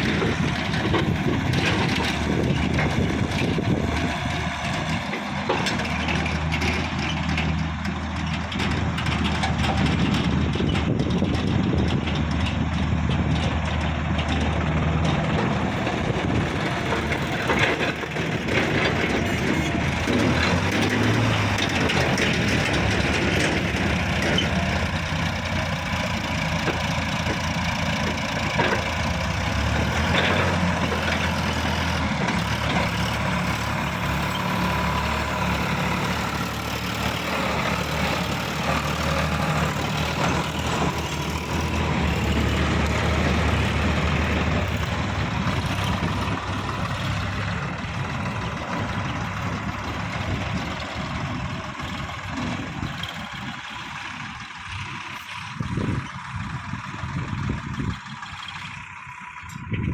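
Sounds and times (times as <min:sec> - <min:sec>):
clanks and knocks: 0:00.0 - 0:53.4
heavy diesel engine running: 0:00.0 - 0:59.9.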